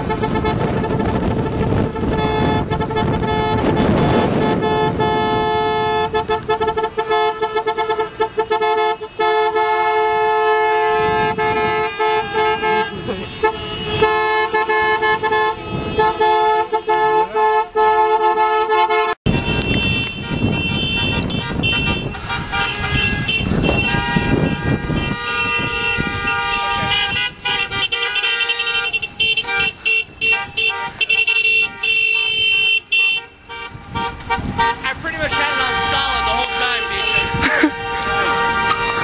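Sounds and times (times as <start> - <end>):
car horns honking: 0.0 - 39.0
cars on the road: 0.0 - 39.0.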